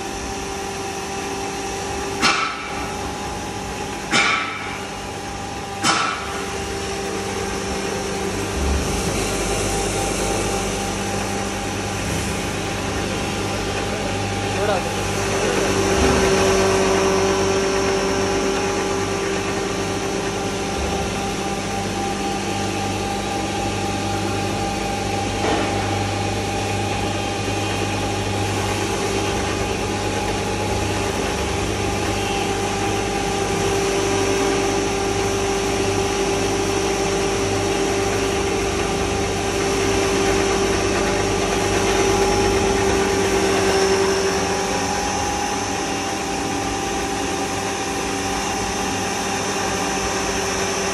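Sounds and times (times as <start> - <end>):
grinding machine motor humming: 0.0 - 50.9.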